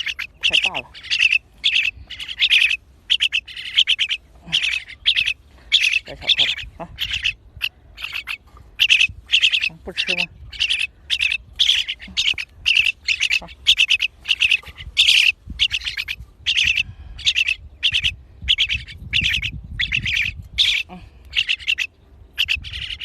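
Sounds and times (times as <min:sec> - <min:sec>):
bird chattering calls: 0:00.0 - 0:23.0.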